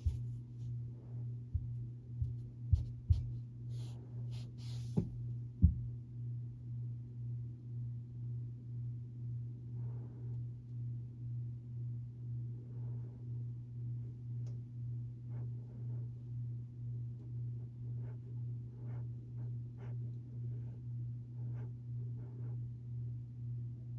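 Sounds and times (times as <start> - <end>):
ceiling fan motor humming: 0.0 - 23.9.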